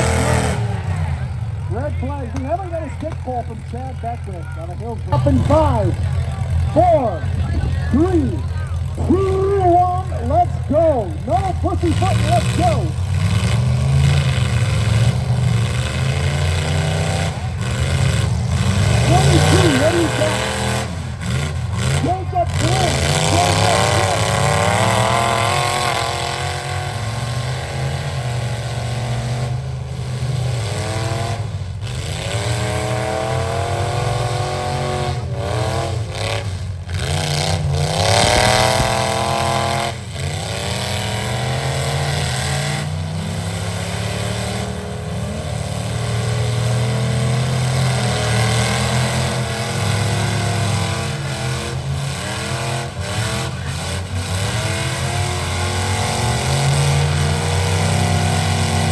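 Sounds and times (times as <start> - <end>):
pickup truck engine revving hard: 0.0 - 4.3, 5.0 - 58.9.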